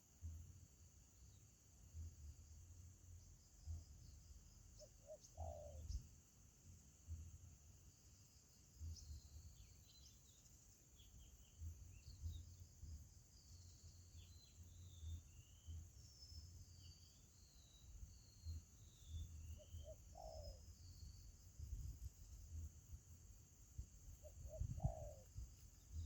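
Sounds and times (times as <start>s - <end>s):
small birds chirping and twittering: 0.0s - 26.0s.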